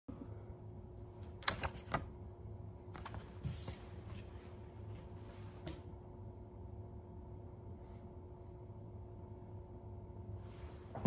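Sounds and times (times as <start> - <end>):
low hum: 2.1 - 11.0.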